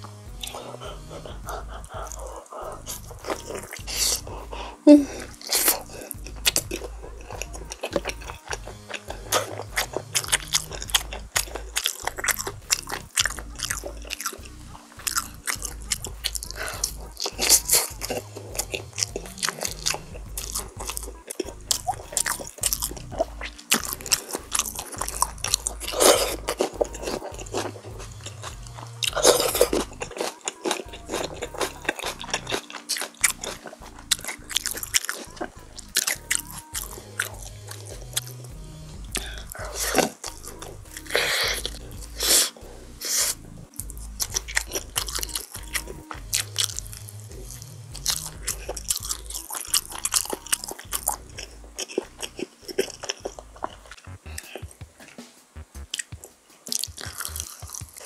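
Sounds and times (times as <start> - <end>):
crunchy chewing: 0.0 - 58.0.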